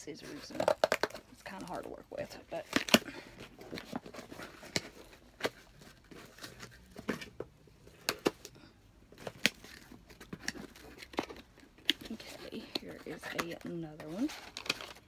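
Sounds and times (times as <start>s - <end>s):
packaging rustling: 0.2s - 8.5s, 9.1s - 15.0s.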